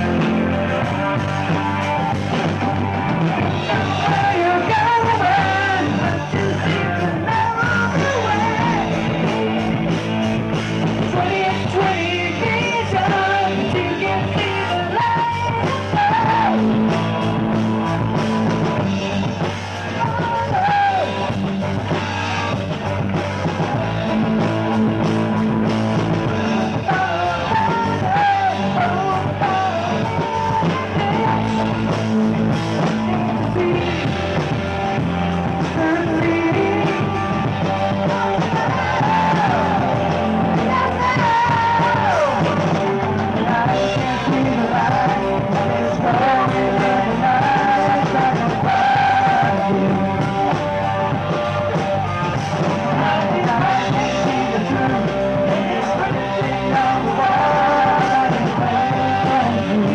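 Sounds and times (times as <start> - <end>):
person singing: 0.0 - 22.0, 24.1 - 59.9
bass guitar: 0.0 - 59.9
drums: 0.0 - 59.9
electric guitar: 0.0 - 59.9.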